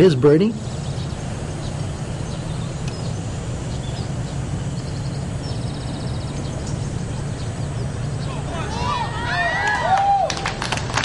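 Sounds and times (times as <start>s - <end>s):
bird chirps and trills: 0.0s - 9.6s
low outdoor hum: 0.0s - 11.0s.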